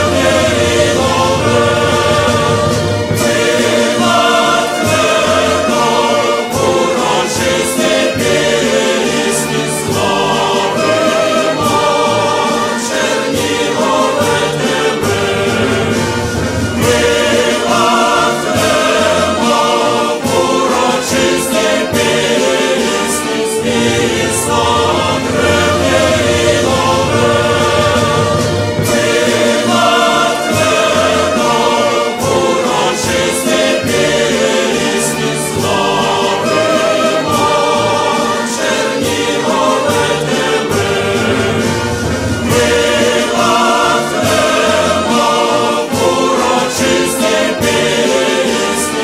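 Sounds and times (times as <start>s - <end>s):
choir singing held chords: 0.0s - 49.0s.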